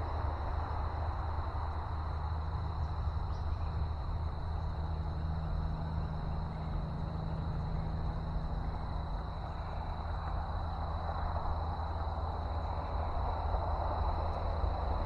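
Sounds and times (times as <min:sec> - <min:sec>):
faint high whine: 0:00.0 - 0:15.0
highway traffic rumble and hiss: 0:00.0 - 0:15.0.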